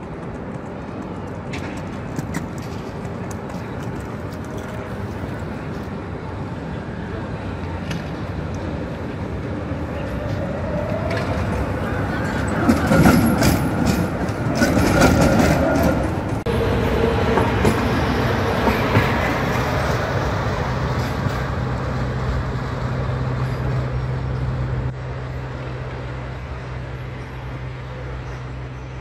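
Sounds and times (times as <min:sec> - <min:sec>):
tram wheels rumbling on rails: 0:00.0 - 0:29.0.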